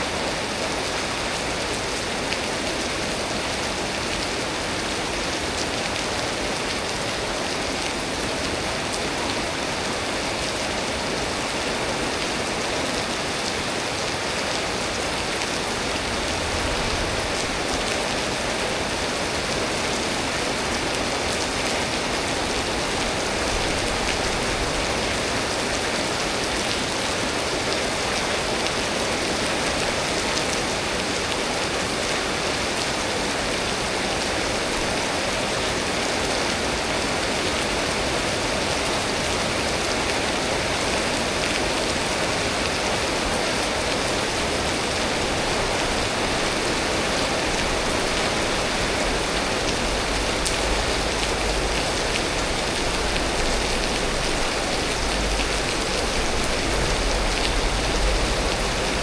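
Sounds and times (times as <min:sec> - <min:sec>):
storm rain falling: 0:00.0 - 0:59.0.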